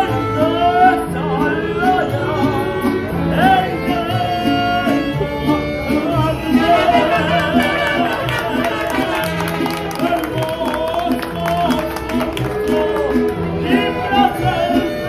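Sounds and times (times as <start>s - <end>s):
bowed string instrument: 0.0s - 15.0s
guitar: 0.0s - 15.0s
person singing: 0.0s - 15.0s.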